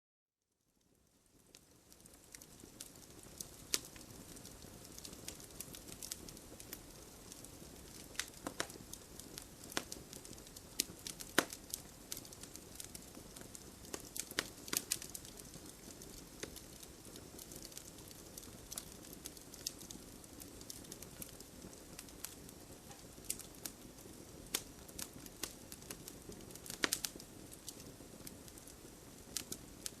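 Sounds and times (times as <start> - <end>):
campfire crackling: 0.8 - 30.0.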